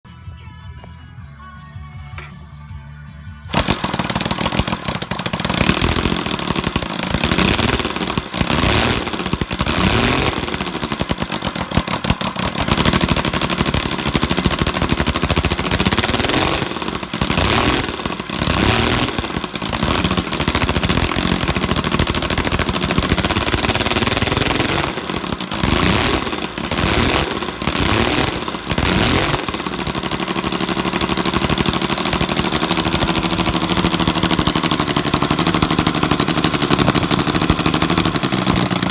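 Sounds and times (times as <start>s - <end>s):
radial engine firing pulses: 3.5s - 38.9s.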